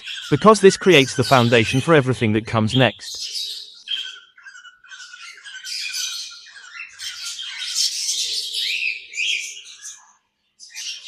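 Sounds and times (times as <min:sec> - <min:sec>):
budgerigars chattering and squawking: 0:00.0 - 0:11.0.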